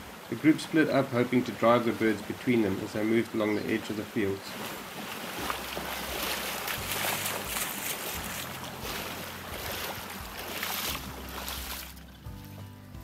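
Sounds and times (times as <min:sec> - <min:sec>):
boots wading through water: 0:00.0 - 0:13.0.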